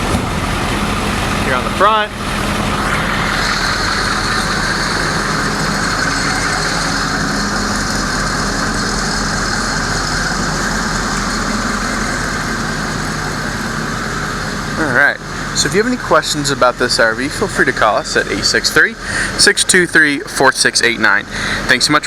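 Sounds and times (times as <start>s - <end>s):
machine humming at idle: 0.0s - 22.0s
faint high whine: 2.7s - 20.9s.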